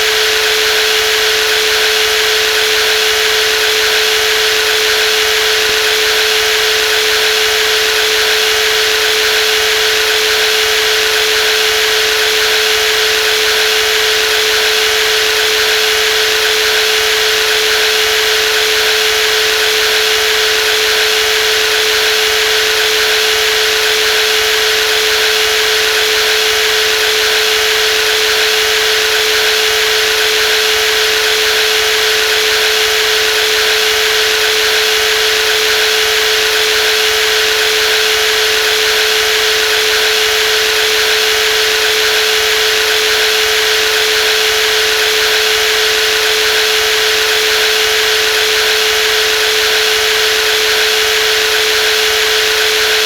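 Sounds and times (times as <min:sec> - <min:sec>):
jigsaw whining: 0:00.0 - 0:53.0.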